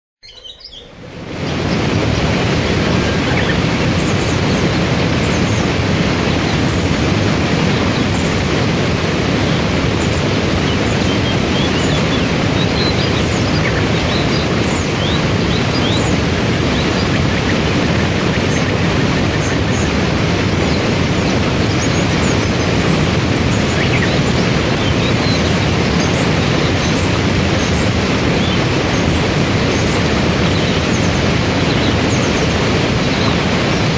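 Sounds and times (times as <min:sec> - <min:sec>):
waterfall roaring: 0:00.7 - 0:33.9.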